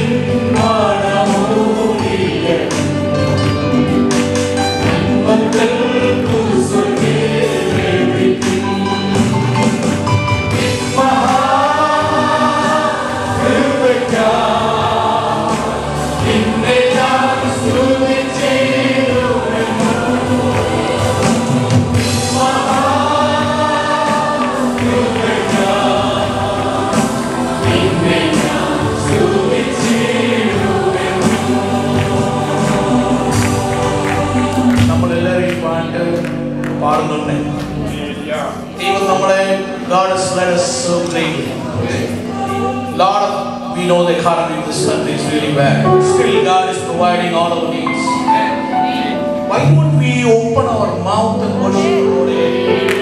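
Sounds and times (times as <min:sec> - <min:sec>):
instrumental backing with beat: 0:00.0 - 0:39.9, 0:44.8 - 0:50.2
group singing gospel song: 0:00.0 - 0:53.0.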